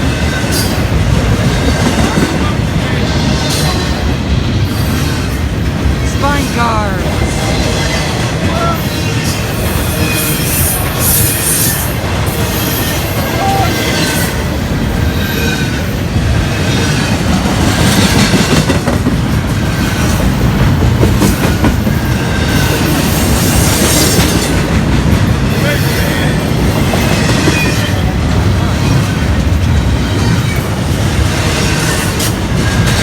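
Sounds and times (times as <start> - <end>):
freight train cars rolling past: 0.0 - 33.0.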